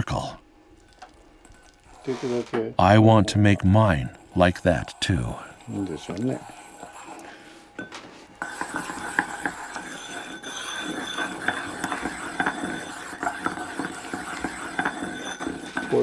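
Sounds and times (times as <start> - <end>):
pestle scraping in ceramic mortar: 1.4 - 16.0.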